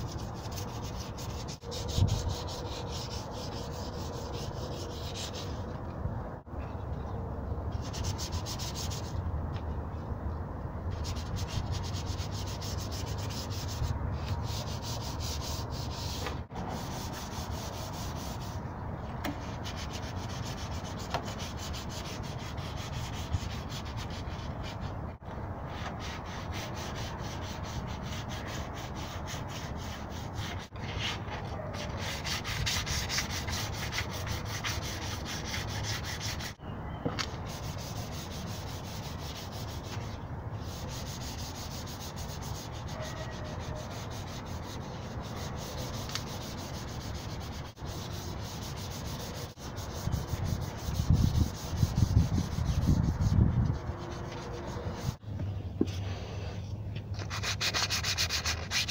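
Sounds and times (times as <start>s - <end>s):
sanding pad rubbing on metal: 0.0s - 5.7s, 11.0s - 18.6s, 19.4s - 24.9s, 25.7s - 36.6s, 37.4s - 55.2s, 57.2s - 58.9s.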